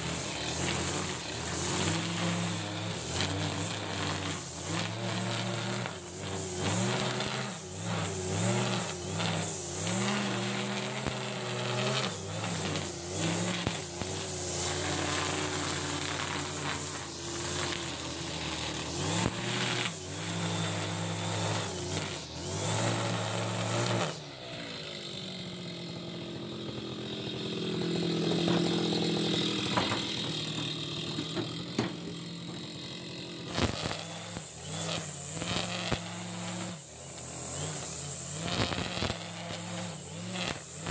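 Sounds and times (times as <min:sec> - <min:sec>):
cutter head swishing through grass: 0:00.0 - 0:25.8, 0:26.4 - 0:40.9
brush cutter engine revving: 0:00.0 - 0:40.9.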